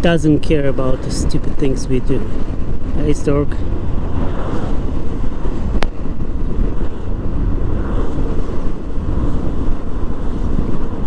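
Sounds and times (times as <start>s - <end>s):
motorcycle low rumble: 0.0s - 11.0s
wind rushing over microphone: 0.0s - 11.0s.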